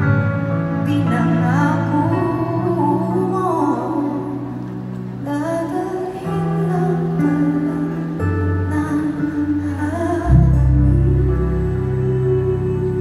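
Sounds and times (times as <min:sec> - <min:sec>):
band accompaniment with bass: 0:00.0 - 0:13.0
woman singing into a microphone: 0:00.7 - 0:13.0.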